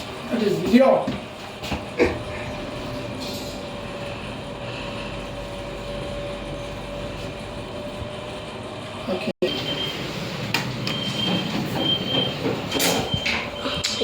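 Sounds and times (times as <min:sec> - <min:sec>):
lift running rumble: 0:01.2 - 0:14.0.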